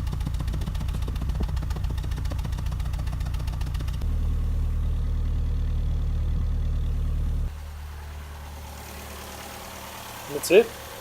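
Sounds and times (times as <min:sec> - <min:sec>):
car exhaust idling: 0:00.0 - 0:11.0.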